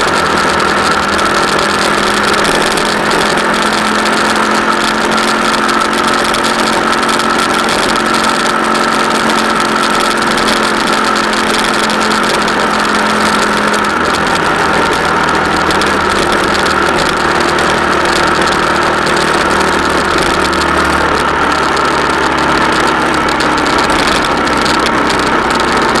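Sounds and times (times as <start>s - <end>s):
road and wind noise: 0.0s - 26.0s
vehicle engine running: 0.0s - 26.0s.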